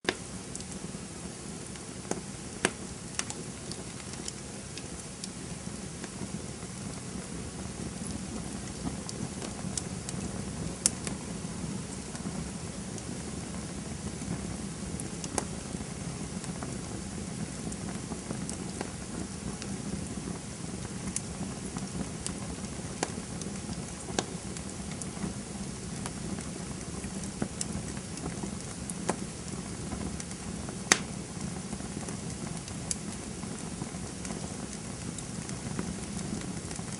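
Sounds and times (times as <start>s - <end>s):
campfire crackling and popping: 0.1s - 36.9s.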